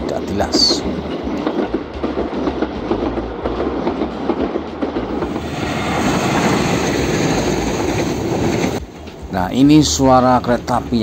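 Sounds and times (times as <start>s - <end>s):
train running on welded rail: 0.0s - 11.0s
train wheels clacking over rail joints: 0.4s - 9.3s.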